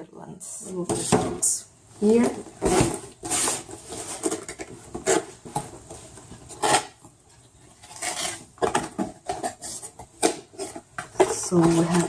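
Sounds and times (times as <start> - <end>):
cardboard and paper rustling: 0.7 - 12.0.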